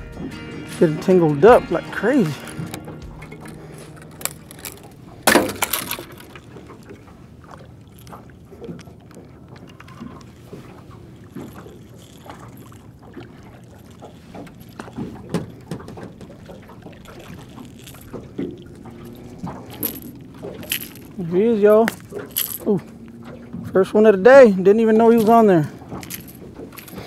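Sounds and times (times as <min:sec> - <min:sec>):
fishing gear clattering: 0:00.0 - 0:27.0
knocks and clicks of rods: 0:02.3 - 0:23.8, 0:24.8 - 0:27.0.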